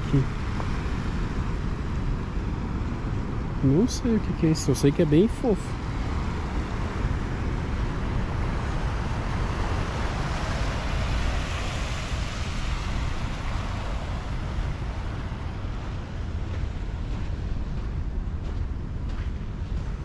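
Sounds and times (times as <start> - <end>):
surf washing onto beach: 0.0 - 20.0
wind rumbling on microphone: 0.0 - 20.0.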